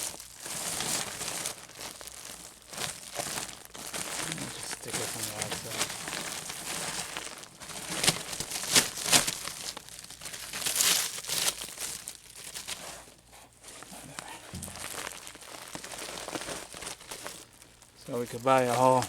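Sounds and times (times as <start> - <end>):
flexible duct crinkling: 0.0 - 19.0
soft rustling: 0.0 - 19.0.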